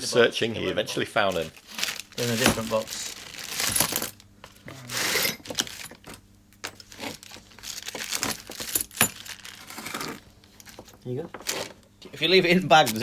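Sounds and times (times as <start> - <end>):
plastic bag rustling: 1.2 - 13.0.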